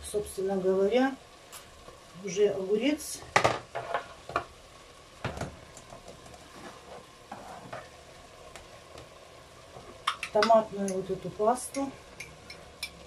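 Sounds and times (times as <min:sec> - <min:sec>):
meat sizzling: 0:00.0 - 0:13.0.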